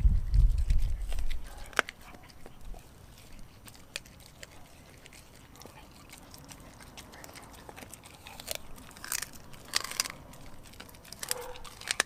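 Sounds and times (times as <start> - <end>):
dog chewing food: 0.0 - 12.0.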